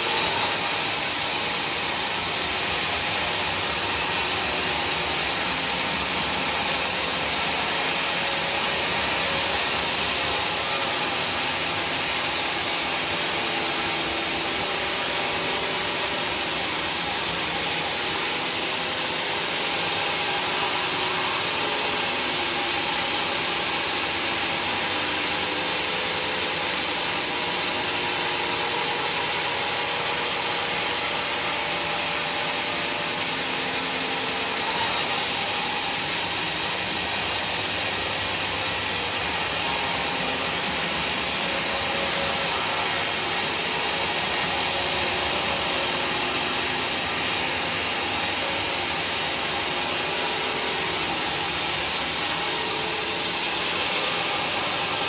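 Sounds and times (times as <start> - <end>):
woodworking machinery running: 0.0 - 55.0.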